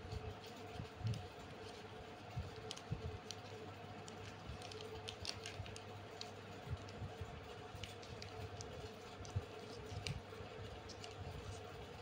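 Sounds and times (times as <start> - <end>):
paper crinkling and rustling: 0.0 - 12.0
steady low hum: 0.0 - 12.0.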